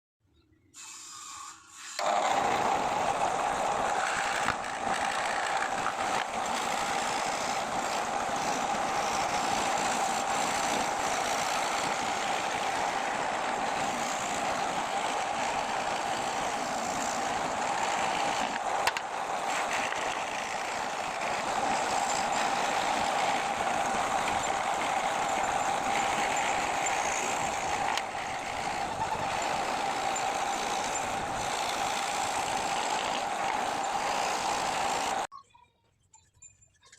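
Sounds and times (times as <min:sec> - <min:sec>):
power tool motor running: 0:00.8 - 0:35.3.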